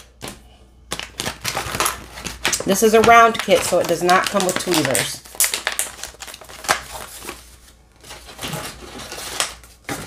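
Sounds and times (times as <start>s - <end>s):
paper pouch crinkling: 0.9s - 9.8s.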